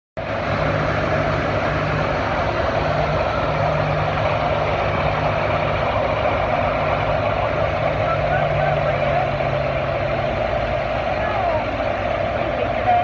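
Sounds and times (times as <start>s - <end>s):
tractor engine running: 0.2s - 13.0s.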